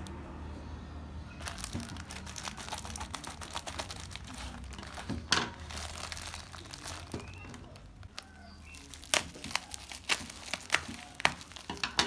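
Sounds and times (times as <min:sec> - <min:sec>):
crinkling and rustling: 0:01.3 - 0:12.0.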